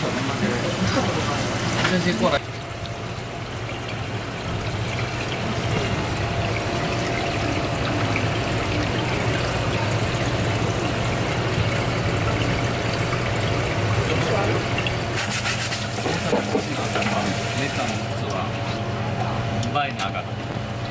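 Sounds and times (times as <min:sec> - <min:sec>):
running water: 0:00.0 - 0:20.9.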